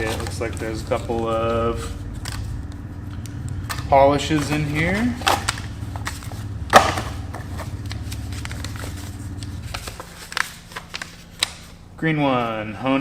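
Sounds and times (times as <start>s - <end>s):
packaging clicks and rustles: 0.0s - 1.3s, 2.0s - 11.8s
low steady hum: 0.0s - 13.0s.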